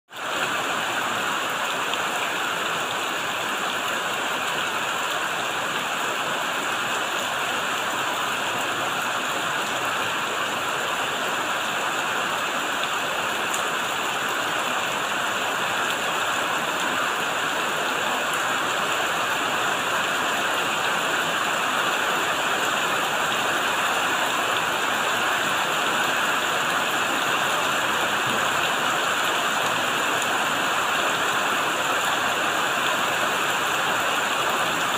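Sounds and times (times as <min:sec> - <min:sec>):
rain on leaves and plastic roof: 0:00.1 - 0:34.9.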